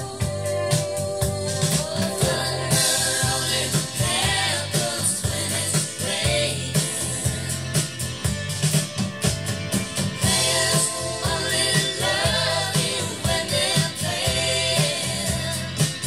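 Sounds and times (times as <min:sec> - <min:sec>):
song with singing over drums: 0:00.0 - 0:16.0.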